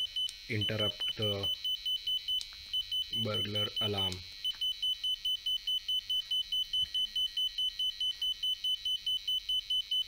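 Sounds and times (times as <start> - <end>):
rapid high-pitched alarm beeps: 0.0 - 10.0.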